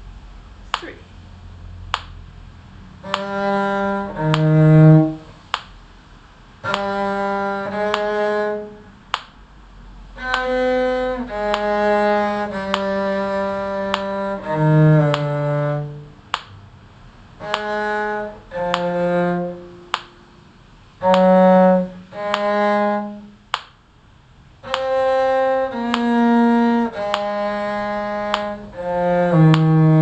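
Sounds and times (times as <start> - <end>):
bowed string instrument melody: 2.8 - 9.2, 9.9 - 23.6, 24.4 - 30.0.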